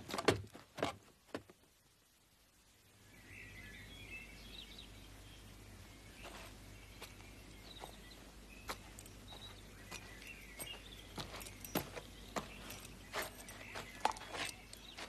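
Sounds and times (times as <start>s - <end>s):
birds chirping faintly: 0.0s - 15.0s
film soundtrack hiss and hum: 0.0s - 15.0s.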